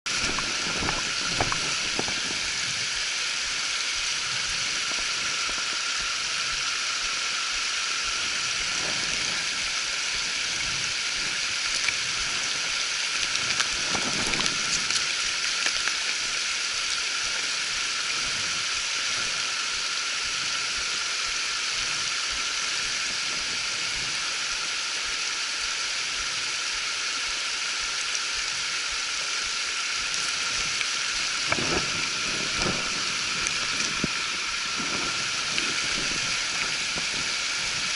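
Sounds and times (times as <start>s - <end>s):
creek water rushing: 0.1s - 37.9s.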